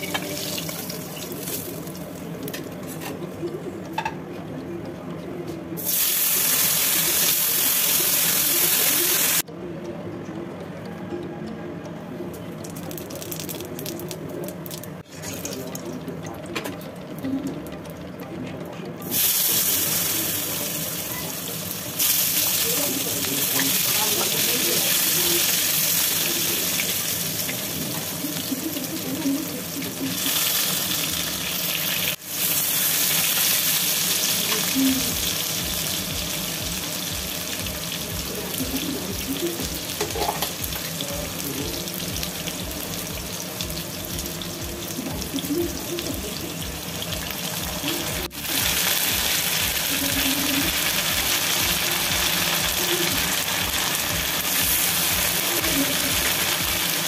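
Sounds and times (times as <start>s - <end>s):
potato wedges sizzling in oil: 0.0s - 4.2s, 5.8s - 9.5s, 12.2s - 57.0s.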